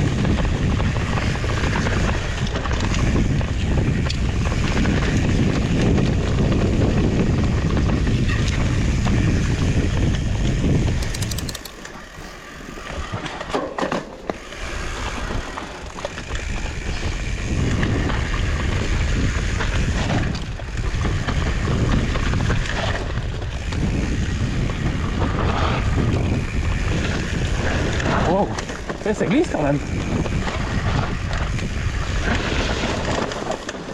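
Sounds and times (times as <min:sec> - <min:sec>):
bike tyre noise and rattle: 0:00.0 - 0:28.0
wind noise on microphone: 0:00.0 - 0:33.9.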